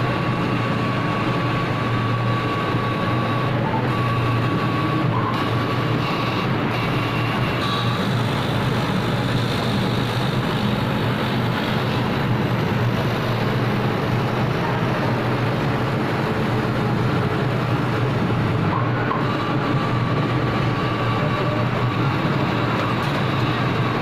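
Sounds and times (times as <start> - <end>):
laser cutting machine humming: 0.0 - 24.0.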